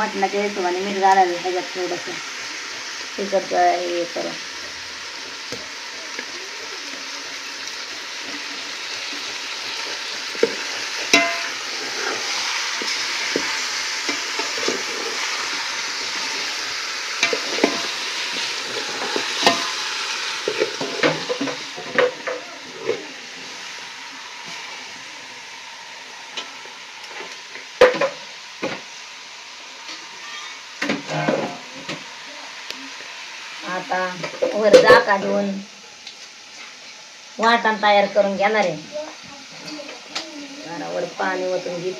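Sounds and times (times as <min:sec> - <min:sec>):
meat sizzling in pot: 0:00.0 - 0:41.9.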